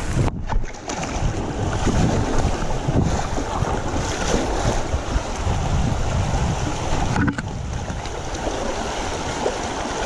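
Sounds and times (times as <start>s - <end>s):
wind buffeting microphone: 0.0s - 10.0s
rushing whitewater: 0.8s - 10.0s.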